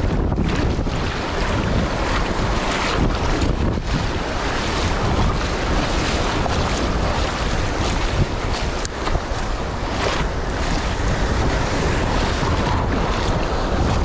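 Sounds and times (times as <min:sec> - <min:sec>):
surf washing onto the beach: 0:00.0 - 0:14.0
wind buffeting the microphone: 0:00.0 - 0:14.0.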